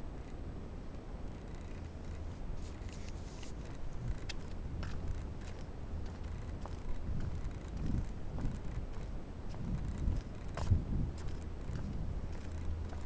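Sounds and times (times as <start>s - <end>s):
wind rumble on microphone: 0.0s - 13.0s
light clicks and scrapes: 1.4s - 13.0s.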